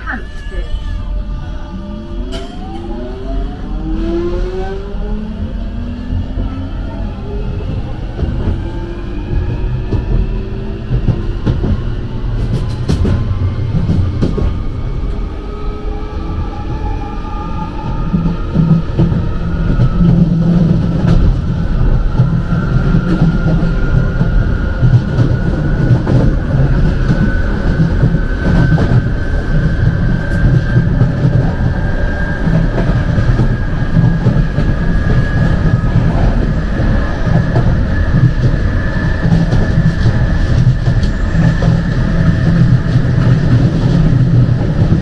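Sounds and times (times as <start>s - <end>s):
train wheels rumbling on track: 0.0s - 45.0s.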